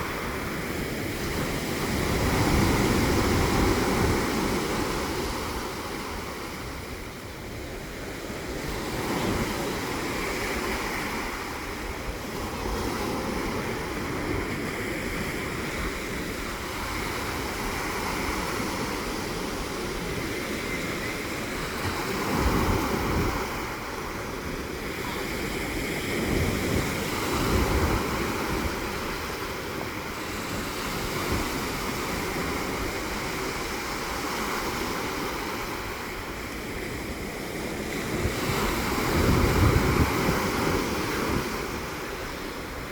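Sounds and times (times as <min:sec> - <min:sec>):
sea waves breaking: 0:00.0 - 0:42.9
wind rumbling on microphone: 0:00.0 - 0:42.9.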